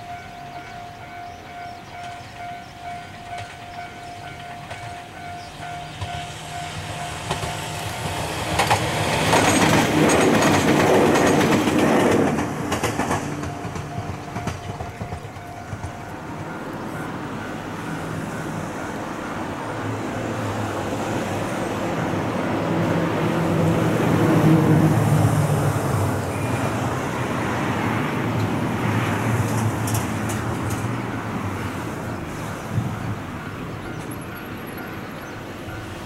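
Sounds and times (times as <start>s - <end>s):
steady traffic noise: 0.0s - 36.0s.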